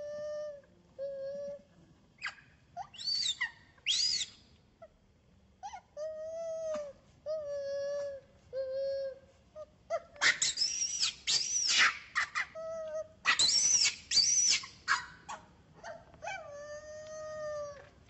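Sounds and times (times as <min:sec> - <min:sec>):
infant monkey crying: 0:00.0 - 0:04.4, 0:05.6 - 0:17.9.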